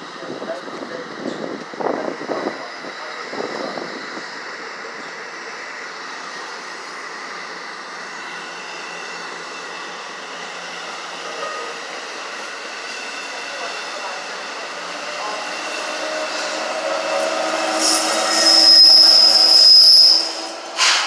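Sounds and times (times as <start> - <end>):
train rolling past: 0.0 - 21.0.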